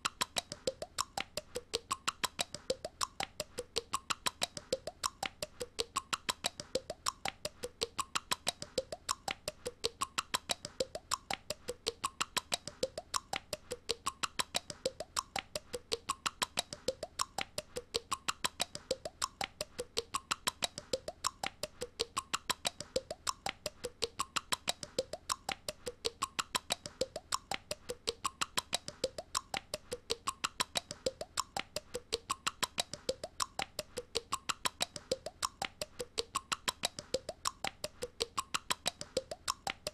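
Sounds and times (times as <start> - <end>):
cartoon girl mouth clicks: 0.0 - 39.9.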